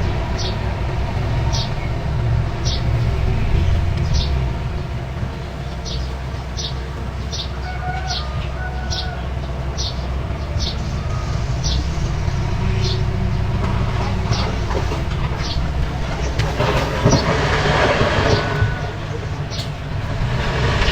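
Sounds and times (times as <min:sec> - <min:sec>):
bulldozer engine running: 0:00.0 - 0:20.9
scraping rush: 0:00.0 - 0:20.9.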